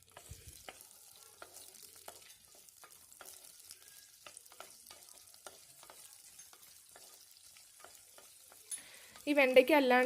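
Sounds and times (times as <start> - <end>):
okra sizzling in oil: 0.0 - 10.0.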